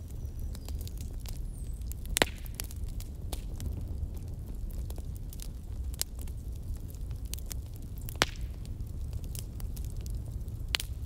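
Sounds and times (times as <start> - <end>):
fire crackling: 0.0 - 11.0
sharp pops of fire: 0.2 - 11.0.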